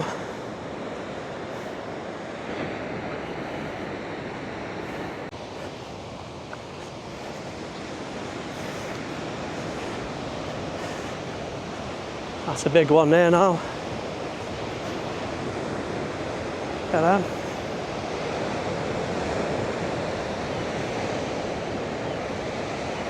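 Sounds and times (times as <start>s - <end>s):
surf breaking below a cliff: 0.0s - 23.0s.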